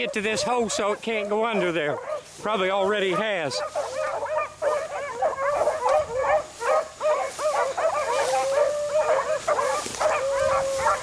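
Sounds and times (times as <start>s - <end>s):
dogs baying and yelping: 0.0s - 11.0s.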